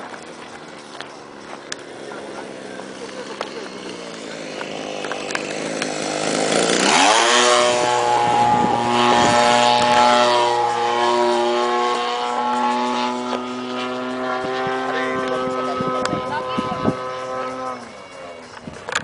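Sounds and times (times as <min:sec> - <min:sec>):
model plane engine revving: 0:00.0 - 0:19.0.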